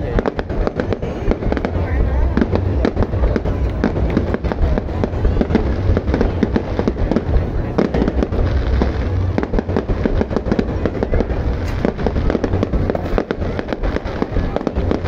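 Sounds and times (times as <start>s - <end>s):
fireworks bangs and crackles: 0.0s - 15.0s
heavy low rumble: 0.0s - 15.0s.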